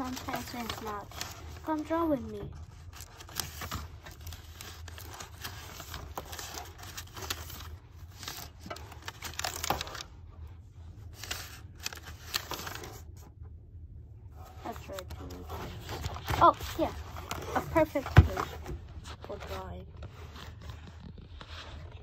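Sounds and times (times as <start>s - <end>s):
paper rustling and scraping: 0.0s - 13.3s, 14.4s - 22.0s.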